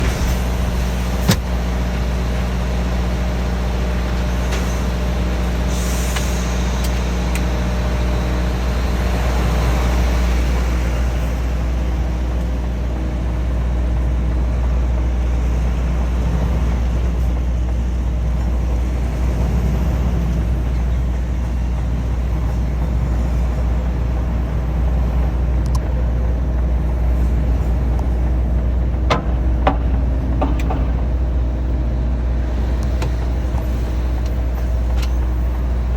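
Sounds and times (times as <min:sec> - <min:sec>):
lorry engine rumbling: 0:00.0 - 0:35.9.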